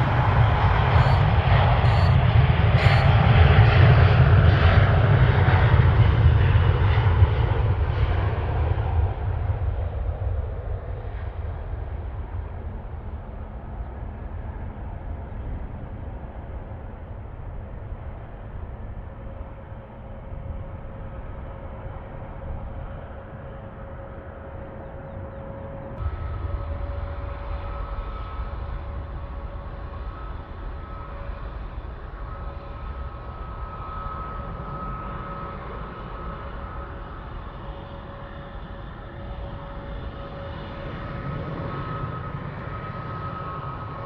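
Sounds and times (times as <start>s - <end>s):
airliner engines rumbling: 0.0s - 44.0s.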